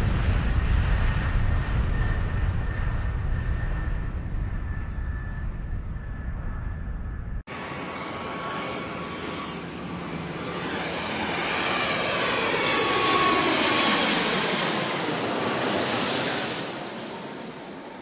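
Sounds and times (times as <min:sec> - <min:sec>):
jet airliner flying overhead: 0:00.0 - 0:18.0.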